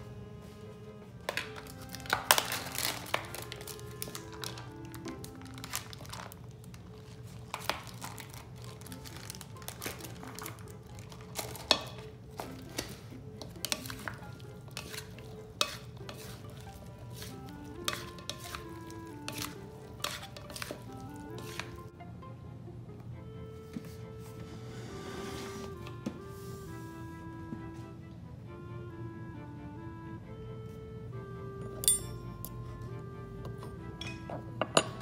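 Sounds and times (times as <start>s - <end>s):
quiet background music: 0.0s - 35.0s.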